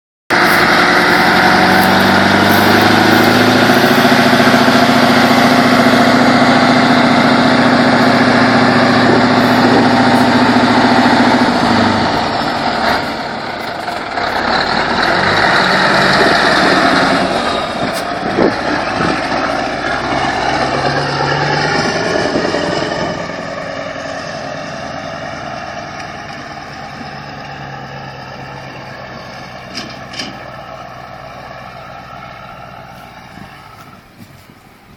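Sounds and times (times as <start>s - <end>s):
diesel truck engine: 0.3s - 34.9s.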